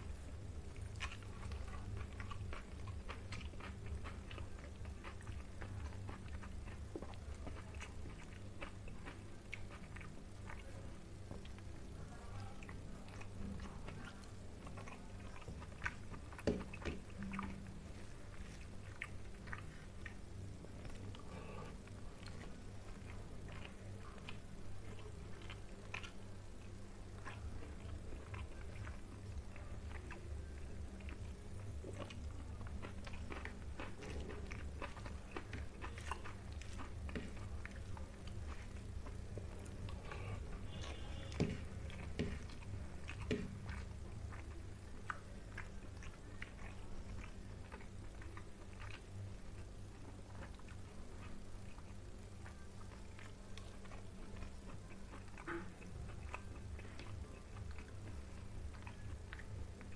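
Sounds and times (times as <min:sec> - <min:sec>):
person chewing food: 0:00.0 - 0:59.9
steady low hum: 0:00.0 - 0:59.9.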